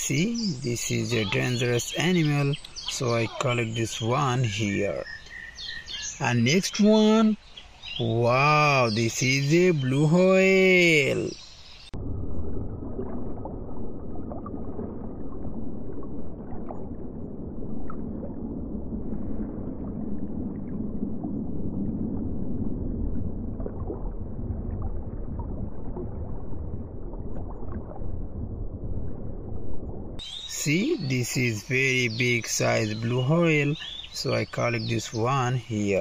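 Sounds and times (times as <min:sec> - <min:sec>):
sea water rushing and gurgling: 0:00.0 - 0:36.0.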